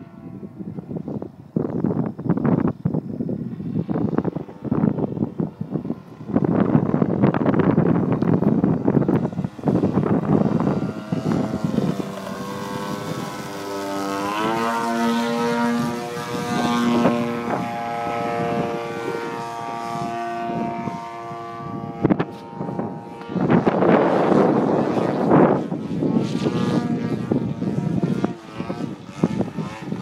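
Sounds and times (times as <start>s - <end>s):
model airplane motor droning: 0.0s - 30.0s
wind buffeting microphone: 0.0s - 30.0s.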